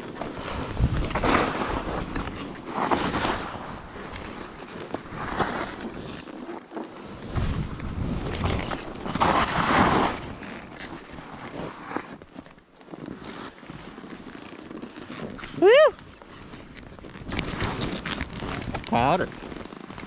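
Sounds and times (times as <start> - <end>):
skis rushing through powder snow: 0.0 - 20.0.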